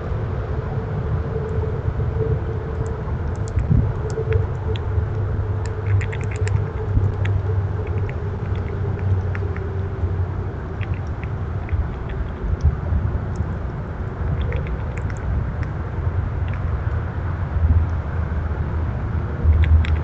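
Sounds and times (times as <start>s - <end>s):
faint steady hum: 0.0s - 20.0s
low rumble: 0.0s - 20.0s.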